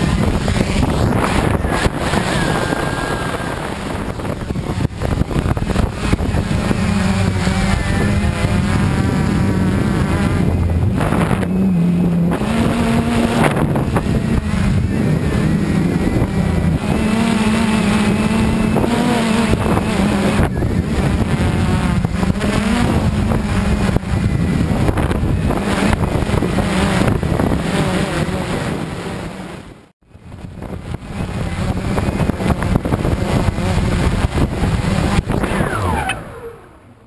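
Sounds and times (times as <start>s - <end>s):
quadcopter propellers buzzing: 0.0s - 37.0s
wind noise on microphone: 0.0s - 37.0s.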